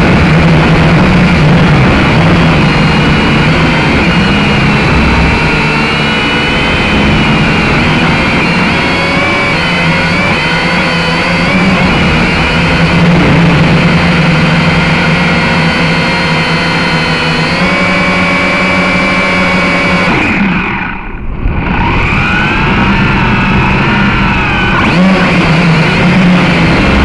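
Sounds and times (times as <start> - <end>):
wind rumble: 0.0 - 17.4, 20.4 - 27.0
drone motors whining: 0.0 - 27.0.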